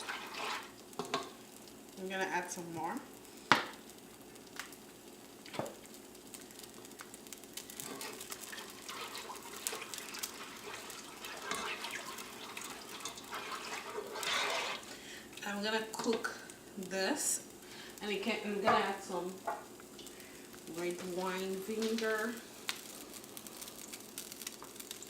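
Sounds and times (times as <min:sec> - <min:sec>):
liquid crackling in saucepan: 0:00.0 - 0:25.0.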